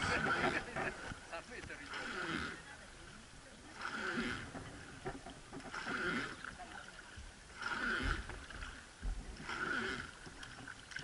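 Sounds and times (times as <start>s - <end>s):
oar strokes through water: 0.0s - 11.0s.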